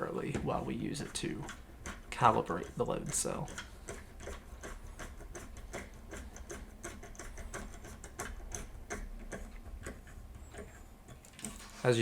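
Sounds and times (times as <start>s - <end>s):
screws clicking into plastic: 1.1s - 11.6s.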